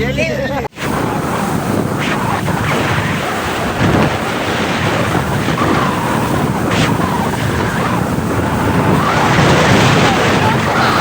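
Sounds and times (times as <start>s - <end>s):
wind buffeting microphone: 0.7s - 11.0s
water rushing past: 0.8s - 11.0s
water spray splash: 0.8s - 11.0s.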